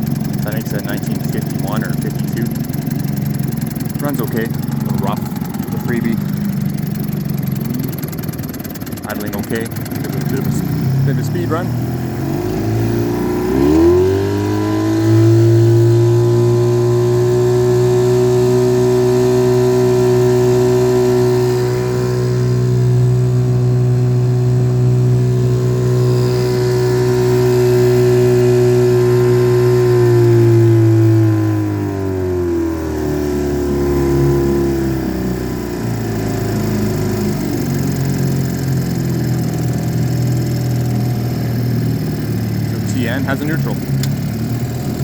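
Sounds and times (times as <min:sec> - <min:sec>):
outboard motor revving: 0:00.0 - 0:45.0.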